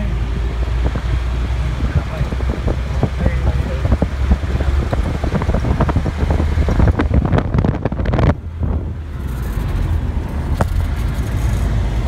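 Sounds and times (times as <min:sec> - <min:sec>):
car engine and road rumble: 0:00.0 - 0:12.0
wind buffeting microphone: 0:00.6 - 0:12.0.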